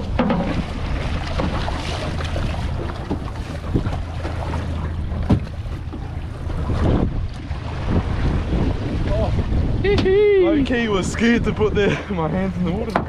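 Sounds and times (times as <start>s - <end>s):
low rumble: 0.0s - 13.0s
wind buffeting microphone: 0.0s - 13.0s.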